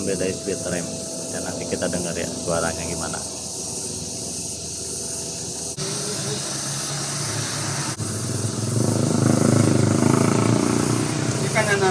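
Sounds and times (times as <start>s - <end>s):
scooter engine revving: 2.3s - 11.9s.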